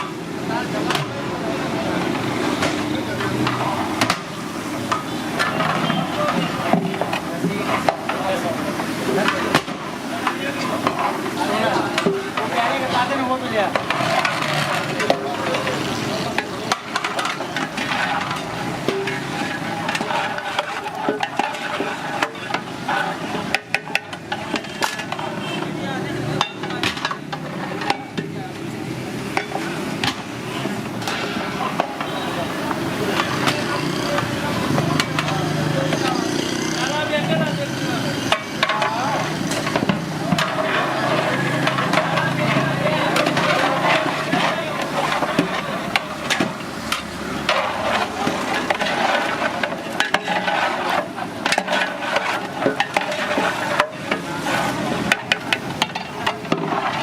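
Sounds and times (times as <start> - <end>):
metal cooking utensils clinking: 0.0 - 57.0
steady noisy background: 0.0 - 57.0
traffic noise: 0.0 - 57.0.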